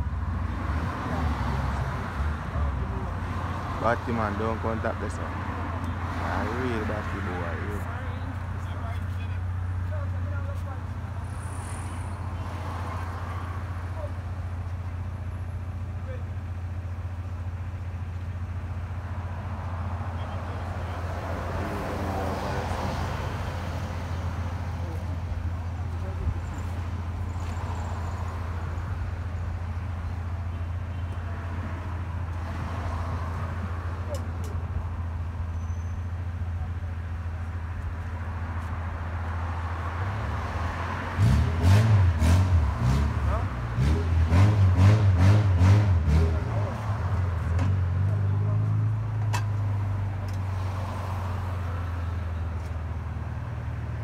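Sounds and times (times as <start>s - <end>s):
car engine rumbling: 0.0s - 54.0s
road traffic noise: 0.0s - 54.0s.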